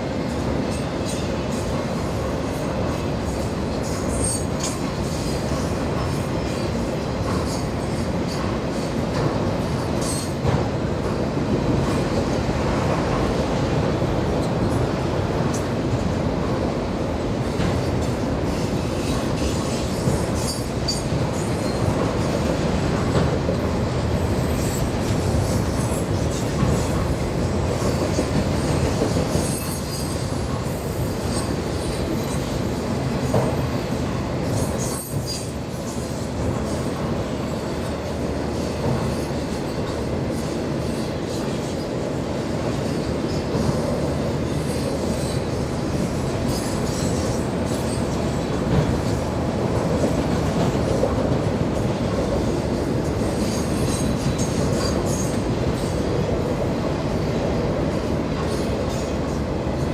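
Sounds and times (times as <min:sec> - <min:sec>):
train wheels clattering: 0:00.2 - 0:56.5.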